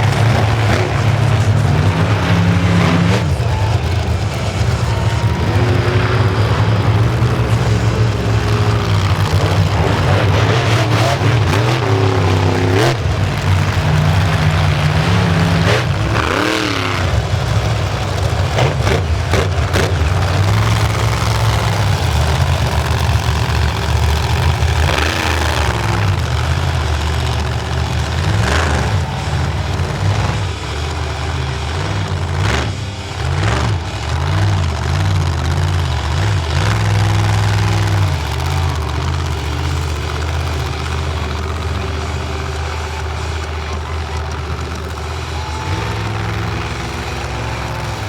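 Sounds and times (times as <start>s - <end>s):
monster truck engines revving: 0.0s - 48.0s.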